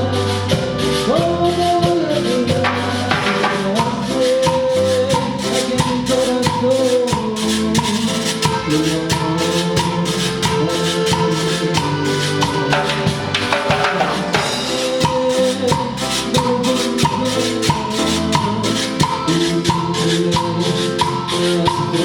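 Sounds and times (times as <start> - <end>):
cumbia band playing: 0.0 - 22.0
shaker rhythm: 1.0 - 22.0.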